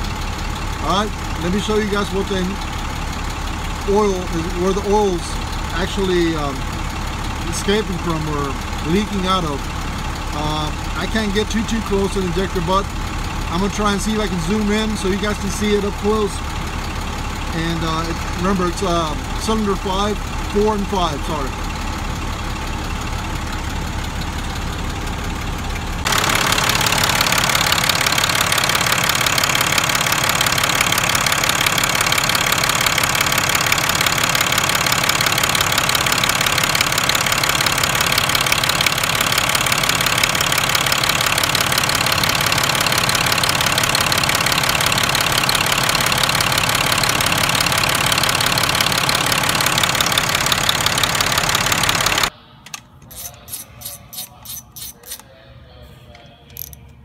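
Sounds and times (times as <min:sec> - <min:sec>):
diesel engine idling clatter: 0:00.0 - 0:55.2.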